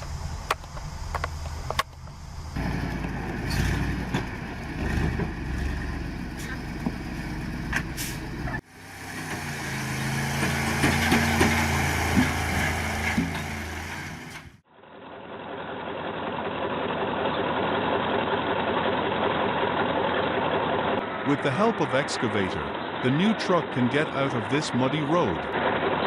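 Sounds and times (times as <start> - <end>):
heavy truck engine: 0.0 - 26.0.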